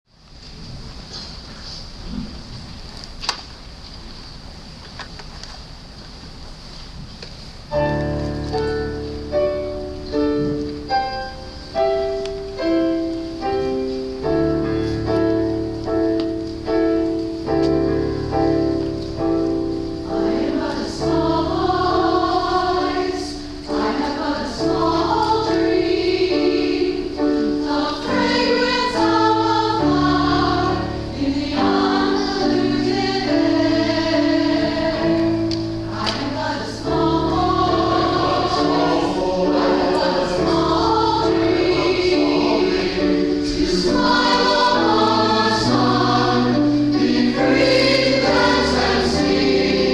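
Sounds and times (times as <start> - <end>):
piano playing slow chords: 7.7 - 49.9
choir singing a hymn: 7.8 - 49.9.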